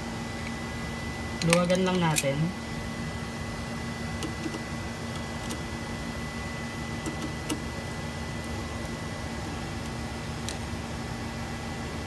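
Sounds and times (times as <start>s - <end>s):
electrical hum with whine: 0.0s - 12.0s.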